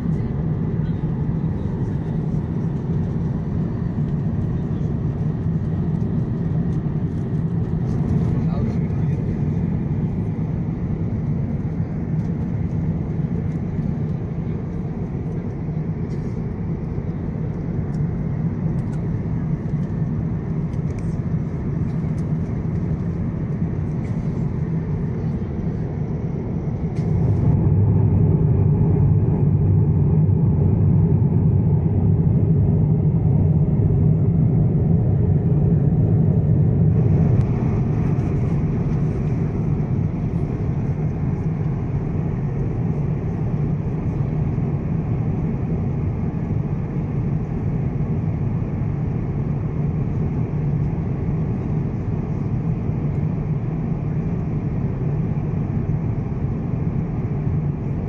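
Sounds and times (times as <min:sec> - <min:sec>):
airplane cabin engine hum: 0:00.0 - 0:58.0.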